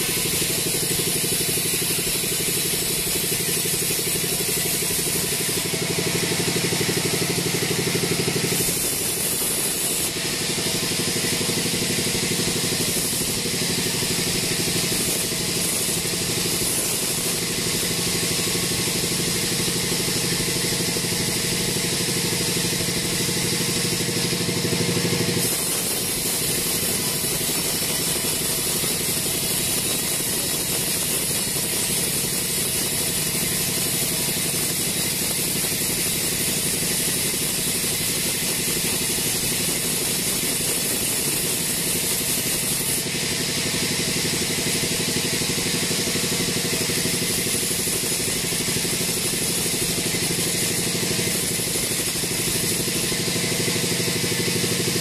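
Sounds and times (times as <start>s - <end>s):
saw blade hissing through log: 0.0s - 55.0s
sawmill mechanical drone: 0.0s - 55.0s.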